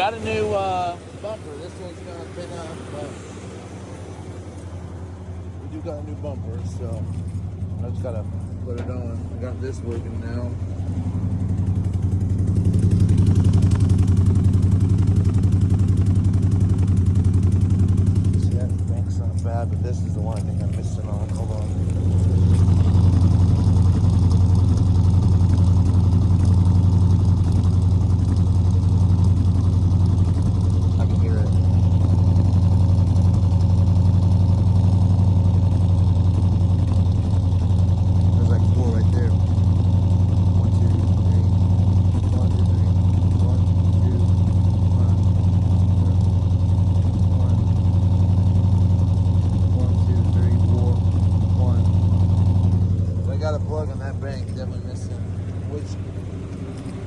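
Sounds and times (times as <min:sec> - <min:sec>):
pickup engine idling rough: 0:00.0 - 0:57.0.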